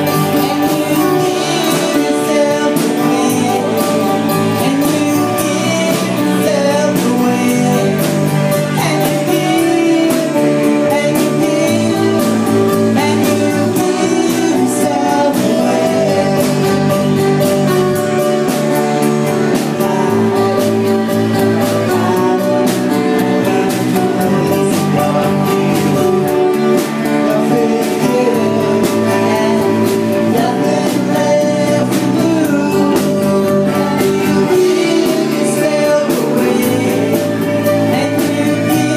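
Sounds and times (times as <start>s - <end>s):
drum kit steady beat: 0.0s - 38.9s
electric guitar: 0.0s - 38.9s
person singing: 0.0s - 38.9s
strummed acoustic-electric guitar: 0.0s - 38.9s.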